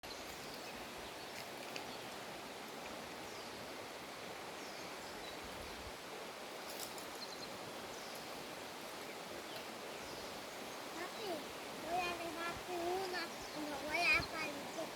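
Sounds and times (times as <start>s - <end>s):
rushing outdoor ambience: 0.0s - 14.9s.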